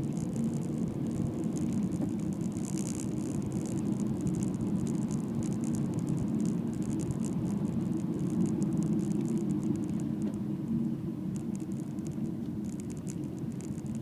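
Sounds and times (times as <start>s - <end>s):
car engine and tyre drone: 0.0s - 14.0s
light crackle of clicks: 0.0s - 14.0s.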